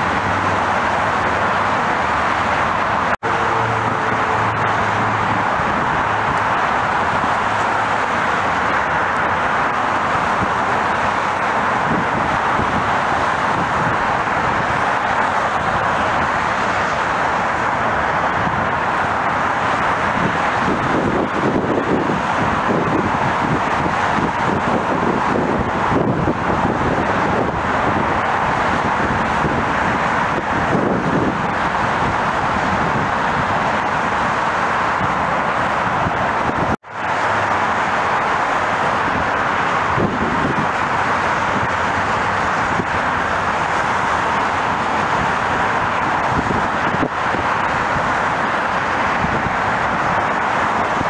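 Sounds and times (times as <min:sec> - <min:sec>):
distant jet engines roaring: 0:00.0 - 0:51.0
road traffic: 0:00.0 - 0:51.0.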